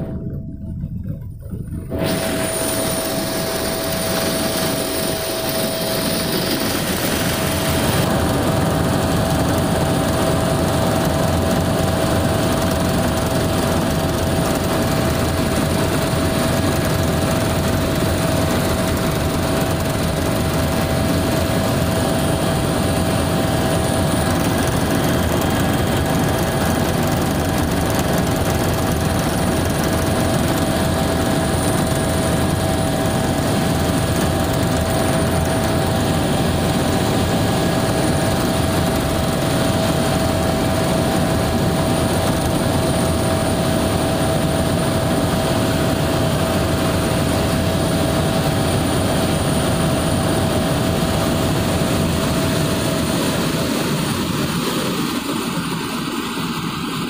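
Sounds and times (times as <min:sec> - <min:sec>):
constant high whine: 0:00.0 - 0:57.0
helicopter engine and rotor noise: 0:00.0 - 0:57.0.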